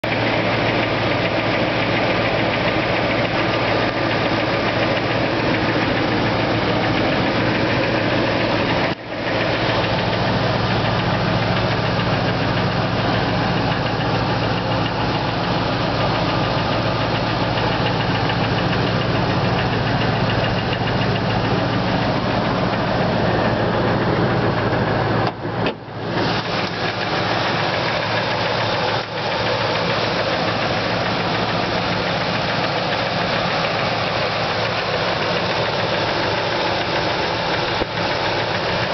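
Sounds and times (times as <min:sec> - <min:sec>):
engine knock: 0:00.0 - 0:38.9
engine running: 0:00.0 - 0:38.9.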